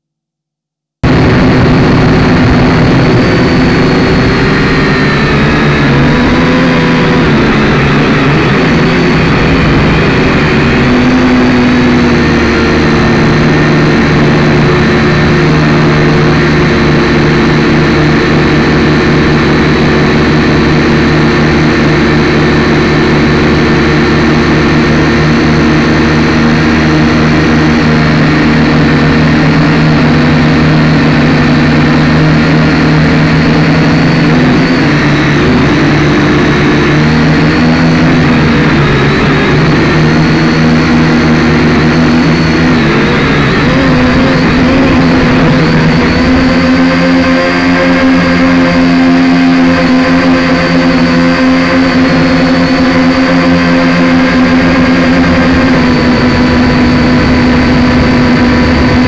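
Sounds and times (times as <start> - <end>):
drone propellers whining: 1.0 - 59.0.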